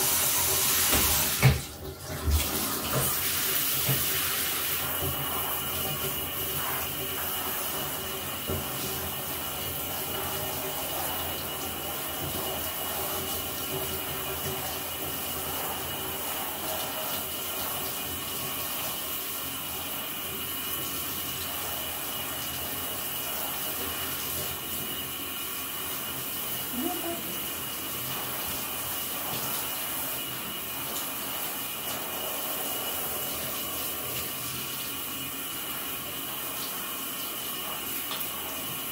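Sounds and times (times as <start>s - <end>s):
shower sprayer running: 0.0s - 38.9s.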